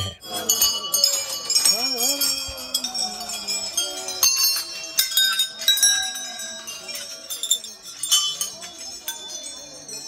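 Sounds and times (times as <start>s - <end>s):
temple bells ringing: 0.0s - 10.0s.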